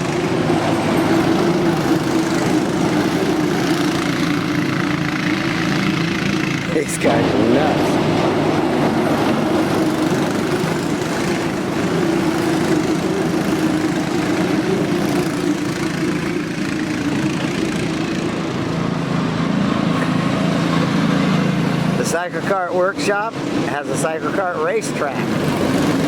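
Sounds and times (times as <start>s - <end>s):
kart engines droning: 0.0s - 26.0s.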